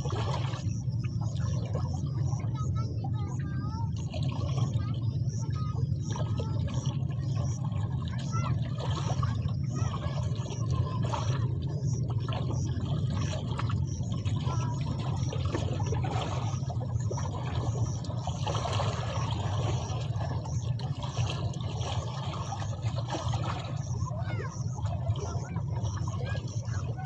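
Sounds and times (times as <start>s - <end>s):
steady low hum: 0.0s - 27.0s
water lapping and trickling: 0.0s - 27.0s.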